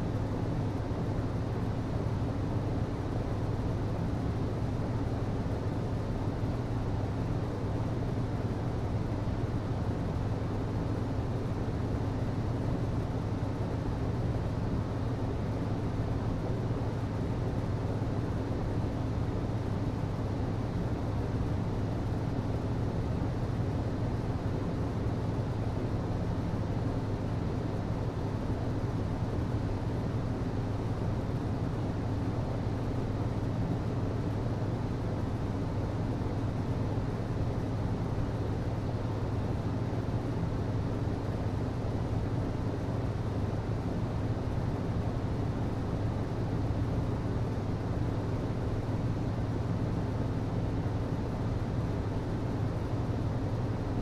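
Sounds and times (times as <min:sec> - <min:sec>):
air conditioning hum and air rush: 0:00.0 - 0:54.0.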